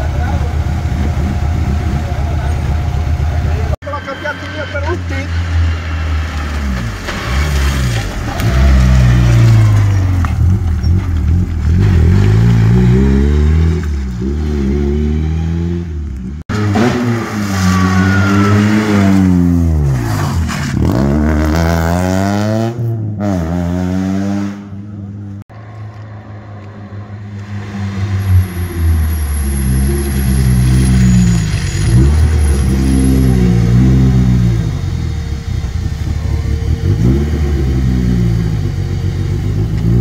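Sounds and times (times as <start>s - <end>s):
distant car engine: 0.0s - 40.0s
rally car engines revving: 0.0s - 40.0s.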